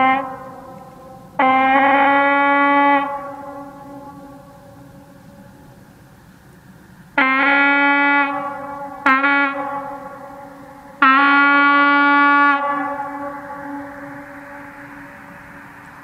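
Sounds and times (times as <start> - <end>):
locomotive air horn blasts: 0.0 - 5.8, 7.2 - 16.0.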